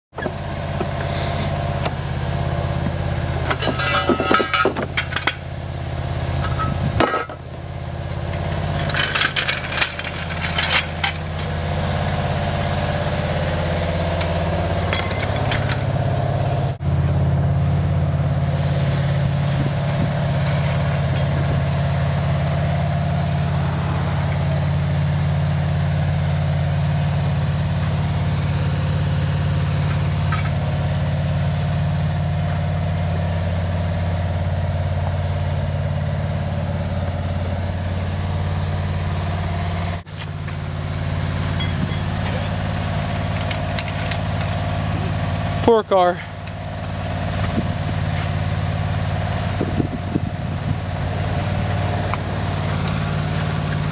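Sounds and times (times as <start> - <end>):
vehicle engine idling: 0.1 - 53.9.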